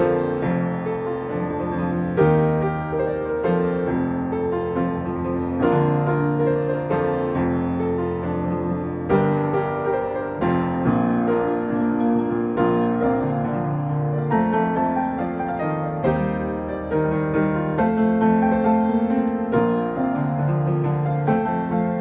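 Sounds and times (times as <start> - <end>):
solo piano playing chords: 0.0 - 22.0.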